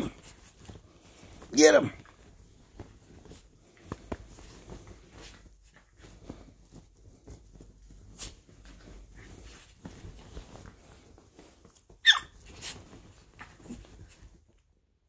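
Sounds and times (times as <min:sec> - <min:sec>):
dogs scuffling and scrambling: 0:00.0 - 0:14.8
comforter rustling: 0:00.0 - 0:15.0.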